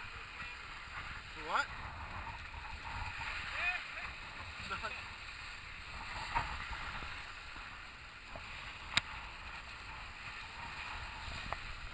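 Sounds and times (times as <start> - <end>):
snowboard scraping on snow: 0.0 - 11.9.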